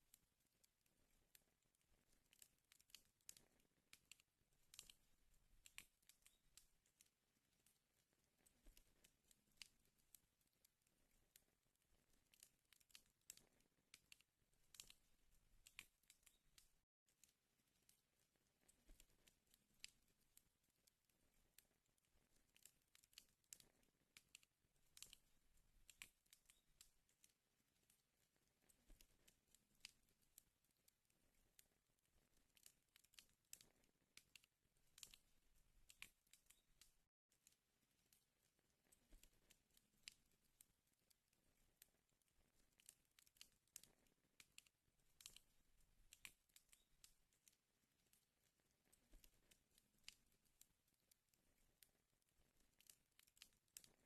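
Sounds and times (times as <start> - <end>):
wood fire crackling: 0.0 - 37.1, 37.9 - 40.6, 41.4 - 54.0.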